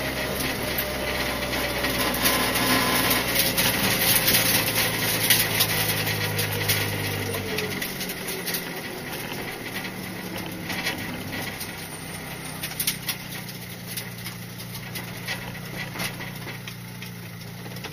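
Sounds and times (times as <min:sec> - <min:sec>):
car engine from inside cabin: 0:00.0 - 0:17.9.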